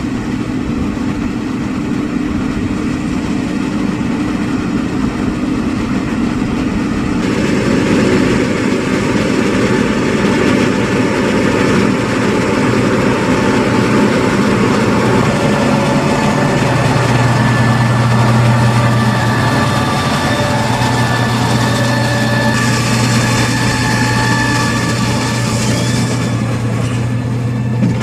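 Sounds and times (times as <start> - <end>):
tractor diesel engine running: 0.0 - 28.0
deep hum: 2.2 - 28.0.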